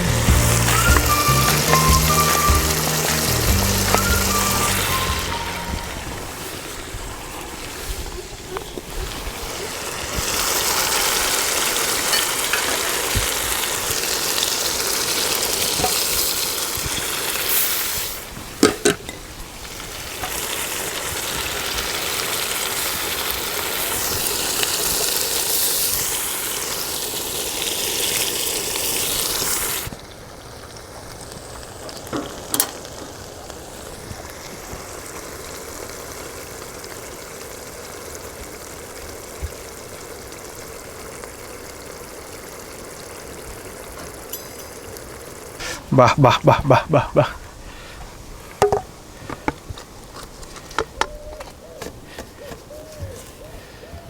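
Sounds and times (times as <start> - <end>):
chicken sizzling in a pan: 0.0 - 50.0.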